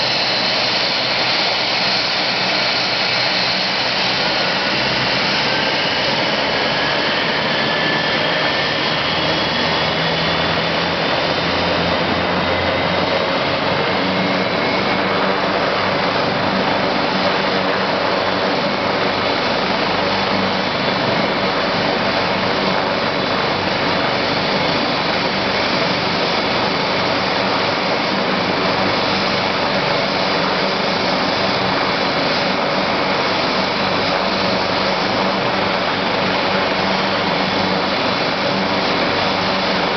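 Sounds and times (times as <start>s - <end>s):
helicopter engines and rotor: 0.0s - 39.9s
high turbine whine: 0.0s - 39.9s.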